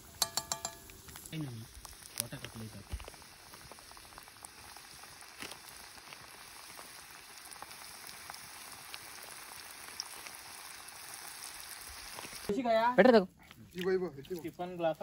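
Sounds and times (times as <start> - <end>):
chicken deep-frying in oil: 0.0 - 12.6.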